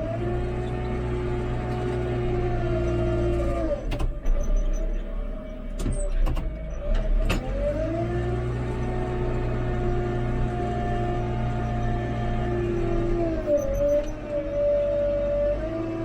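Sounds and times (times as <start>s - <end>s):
backhoe diesel engine and hydraulics: 0.0s - 16.0s.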